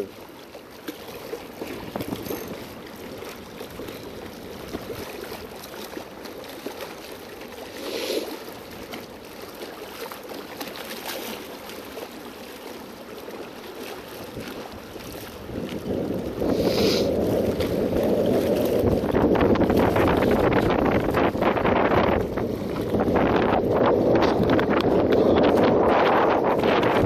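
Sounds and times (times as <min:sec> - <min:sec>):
water lapping at shoreline: 0:00.0 - 0:27.0.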